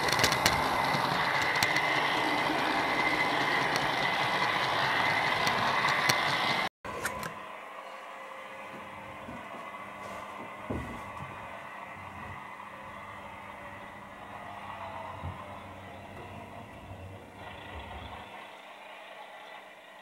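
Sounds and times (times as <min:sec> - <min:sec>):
model train rattling and whining: 0:00.0 - 0:20.0.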